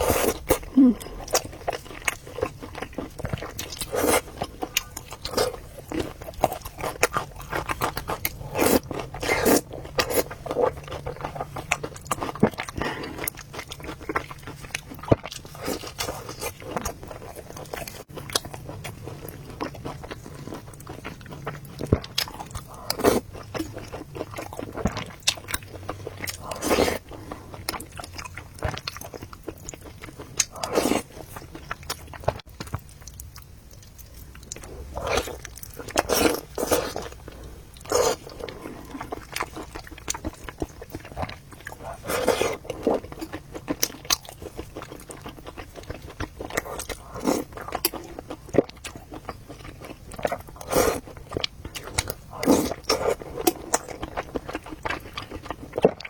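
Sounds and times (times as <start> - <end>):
person chewing wetly: 0.0 - 56.0.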